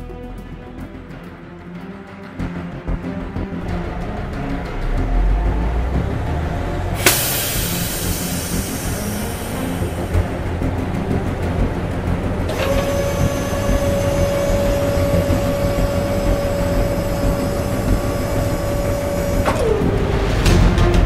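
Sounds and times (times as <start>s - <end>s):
truck engine rumble: 2.6s - 21.0s
high engine whine: 3.4s - 20.9s.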